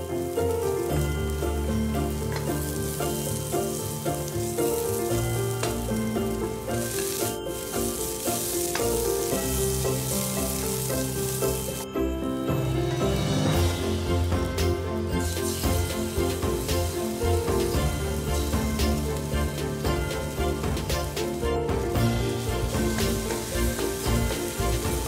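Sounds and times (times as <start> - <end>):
wooden spatula stirring: 0.0 - 11.8, 15.2 - 25.0
food sizzling in hot oil: 0.0 - 11.9, 13.2 - 25.0
light background music: 0.0 - 25.0.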